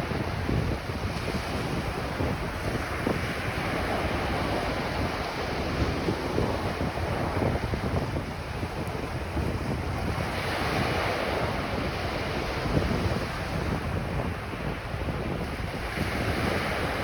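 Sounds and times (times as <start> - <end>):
ocean waves washing onto beach: 0.0 - 17.0
wind buffeting microphone: 0.0 - 17.0.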